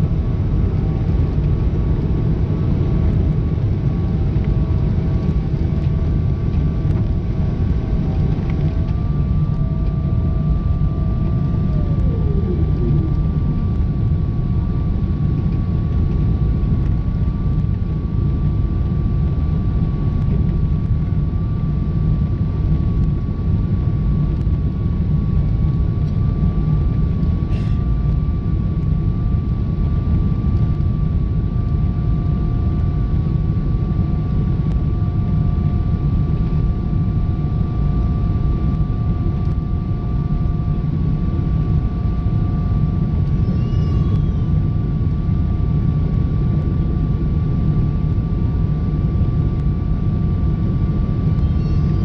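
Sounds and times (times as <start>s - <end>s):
airplane cabin engine rumble: 0.0s - 52.0s
thin steady whine: 0.0s - 52.0s.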